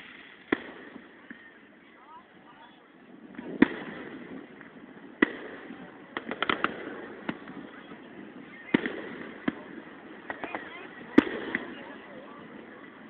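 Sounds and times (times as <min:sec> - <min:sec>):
fireworks sharp cracks: 0:00.0 - 0:01.7, 0:03.1 - 0:12.0
background haze of sound: 0:00.0 - 0:13.0
fireworks bangs: 0:00.0 - 0:13.0.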